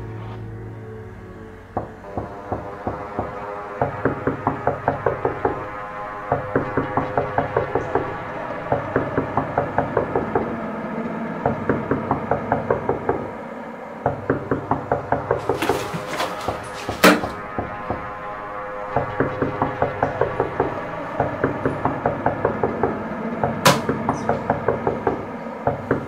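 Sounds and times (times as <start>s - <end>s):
low sustained drone: 0.0s - 14.1s, 15.4s - 25.8s.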